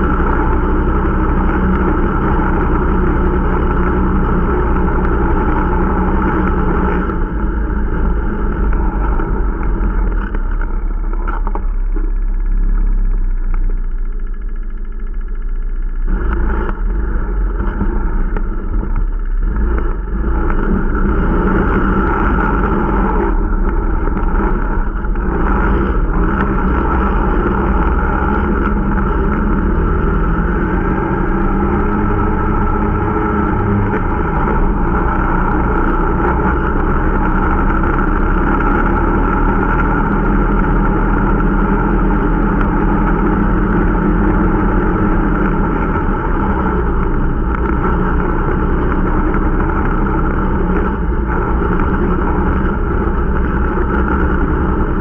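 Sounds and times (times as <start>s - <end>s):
snowmobile engine droning: 0.0s - 55.0s.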